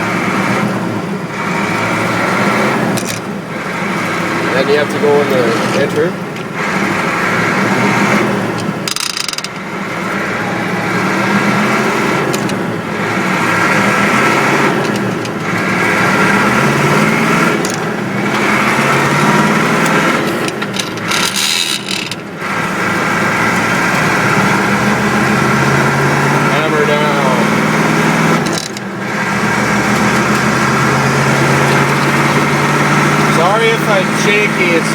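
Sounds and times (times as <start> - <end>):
diesel truck engine pulling under load: 0.0 - 34.9.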